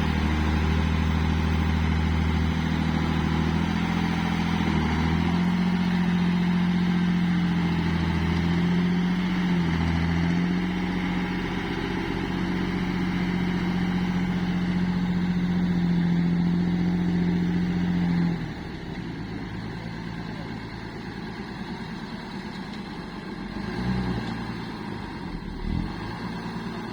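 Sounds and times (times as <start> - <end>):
vehicle engine droning: 0.0 - 26.9.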